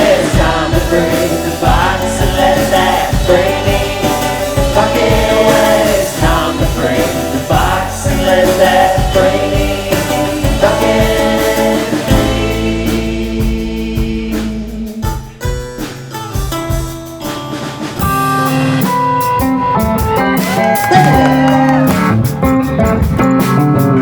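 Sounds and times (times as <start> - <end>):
rock song with lead guitar: 0.0 - 14.4, 15.0 - 24.0.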